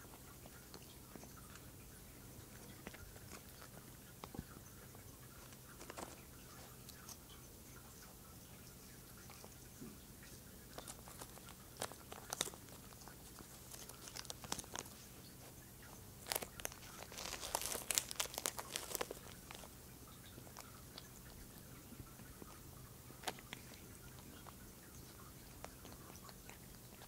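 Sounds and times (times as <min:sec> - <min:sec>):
cat crunching a treat: 0:00.0 - 0:08.2, 0:10.4 - 0:27.0.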